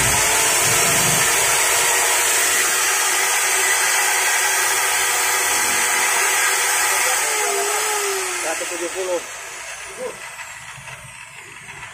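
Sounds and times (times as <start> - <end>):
circular saw motor running: 0.0 - 11.9.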